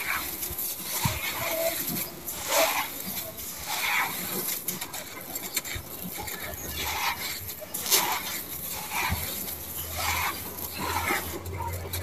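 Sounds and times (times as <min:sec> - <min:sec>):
gritty sand crunching and pattering: 0:00.0 - 0:12.0.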